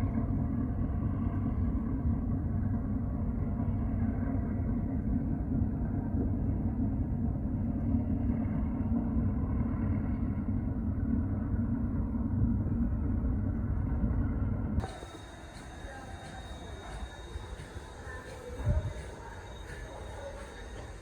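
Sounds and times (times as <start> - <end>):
ship engine rumble: 0.0 - 21.0.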